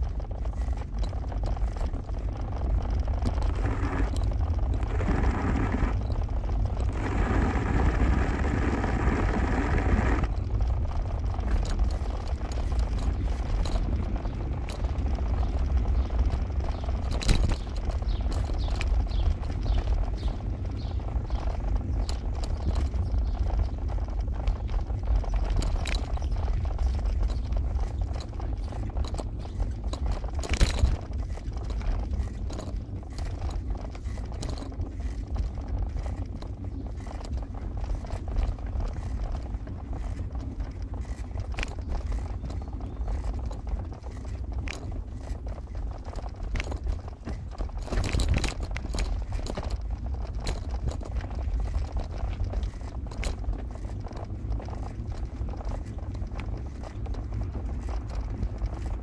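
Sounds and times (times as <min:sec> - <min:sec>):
small rattles and knocks: 0:00.0 - 0:59.0.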